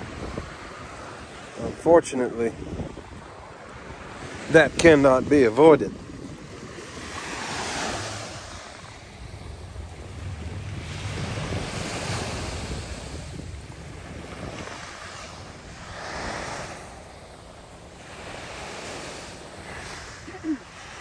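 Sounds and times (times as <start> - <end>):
surf breaking on beach: 0.0 - 21.0
wind buffeting microphone: 0.0 - 21.0.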